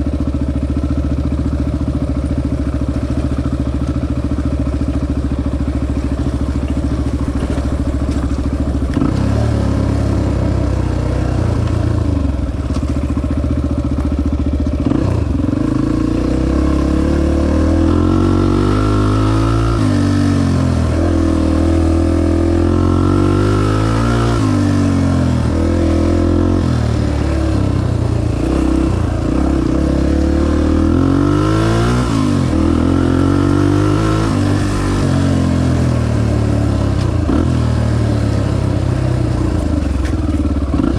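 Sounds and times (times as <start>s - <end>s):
dirt bike engine revving: 2.9s - 14.0s, 14.6s - 40.9s.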